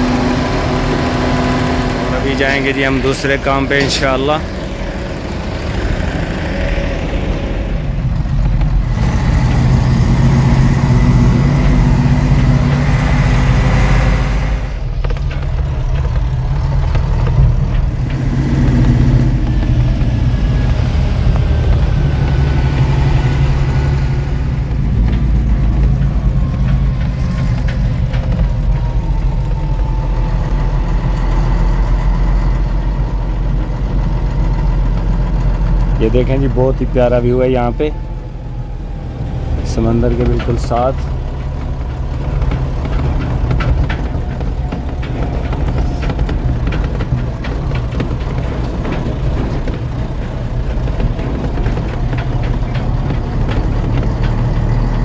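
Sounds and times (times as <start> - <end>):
heavy diesel engine hum: 0.0 - 55.0.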